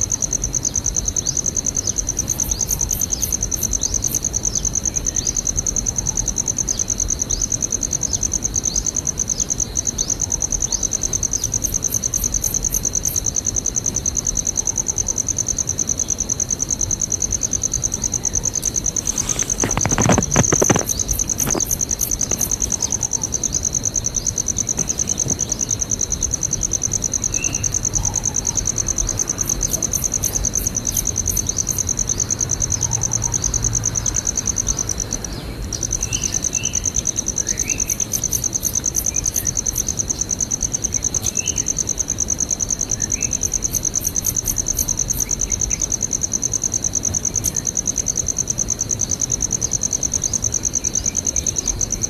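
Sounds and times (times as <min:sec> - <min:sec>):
high-pitched insect trill: 0:00.0 - 0:52.0.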